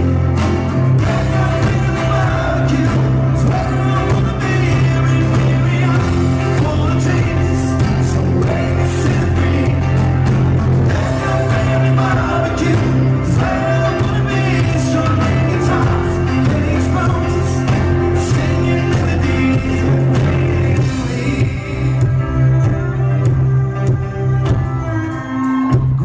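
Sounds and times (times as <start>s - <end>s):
live rock band playing: 0.0s - 26.0s
man singing into a microphone: 1.0s - 23.9s.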